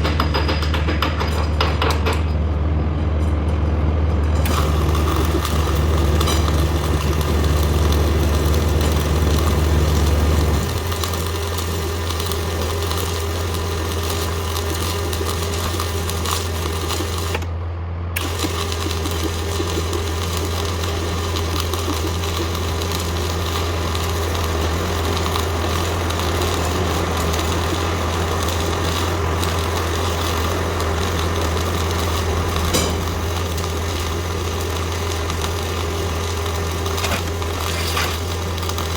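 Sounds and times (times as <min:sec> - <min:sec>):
welding arc buzzing: 0:00.0 - 0:17.6, 0:18.2 - 0:38.9
low machine hum: 0:01.0 - 0:38.9.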